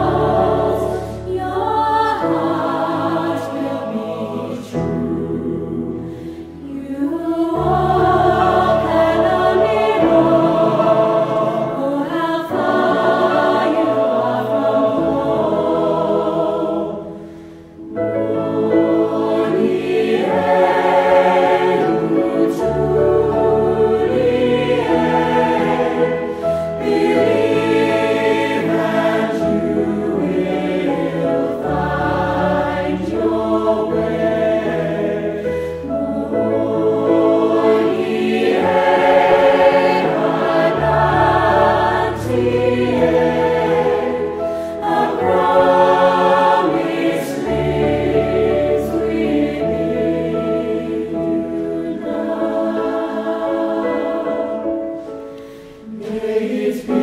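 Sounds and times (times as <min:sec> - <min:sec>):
mixed-voice choir singing: 0:00.0 - 0:57.0.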